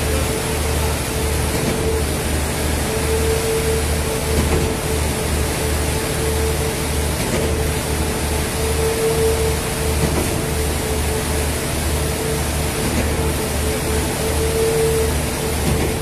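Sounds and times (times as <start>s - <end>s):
concrete pump throbbing: 0.0s - 16.0s.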